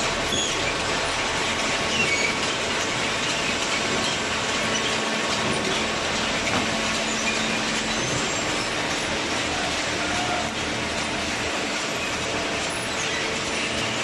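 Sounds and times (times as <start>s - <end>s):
hydraulic baler running: 0.0s - 14.0s.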